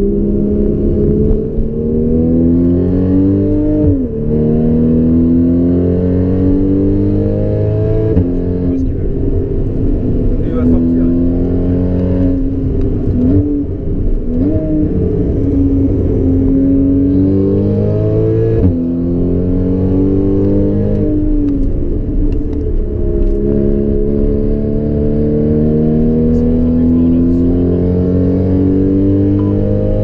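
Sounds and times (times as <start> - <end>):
car engine revving from cabin: 0.0 - 30.0.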